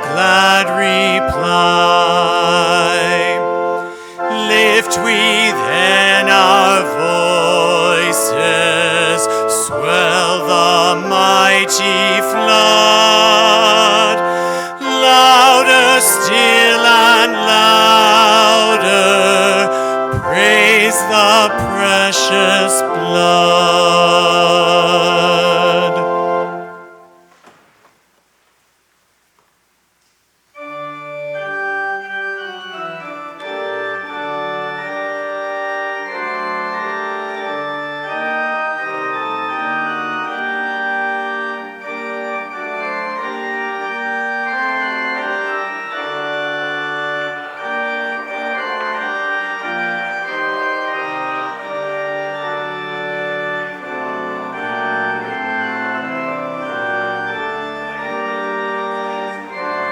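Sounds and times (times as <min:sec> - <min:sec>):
church organ playing: 0:00.0 - 0:27.6, 0:30.5 - 0:59.9.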